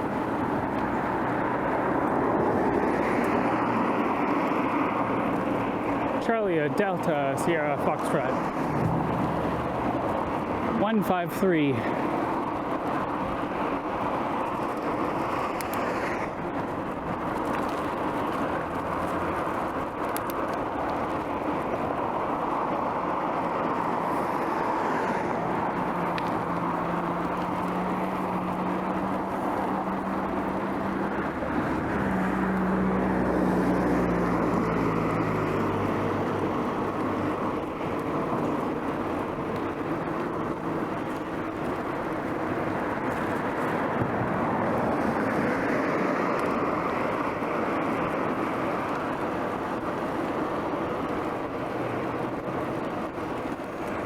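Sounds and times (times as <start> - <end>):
motor vehicle engine hum: 0.0 - 54.0
wind and road noise: 0.0 - 54.0.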